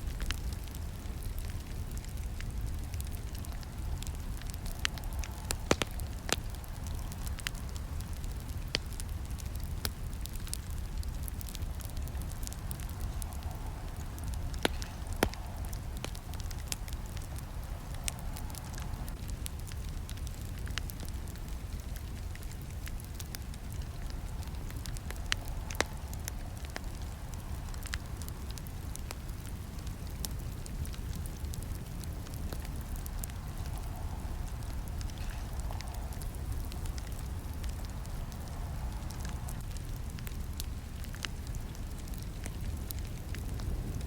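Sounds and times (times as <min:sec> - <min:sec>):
campfire crackling and snapping: 0:00.0 - 0:44.0.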